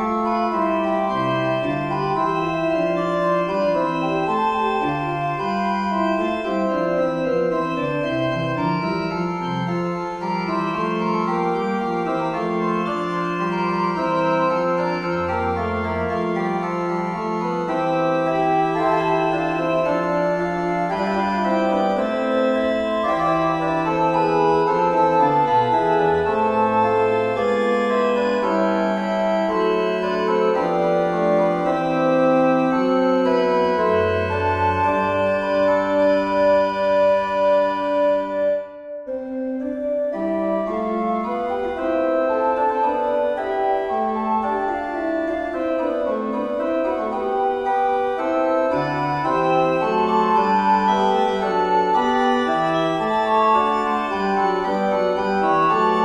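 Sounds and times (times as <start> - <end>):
organ fugue: 0.0 - 56.0.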